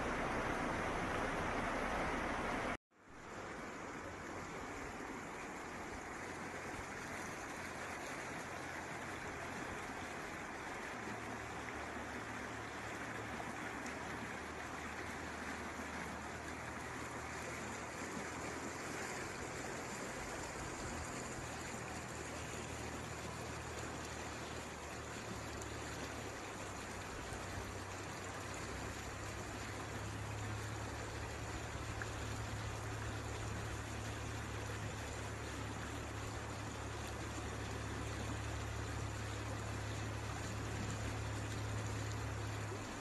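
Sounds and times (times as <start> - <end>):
flood water rushing down a street: 0.0 - 43.0.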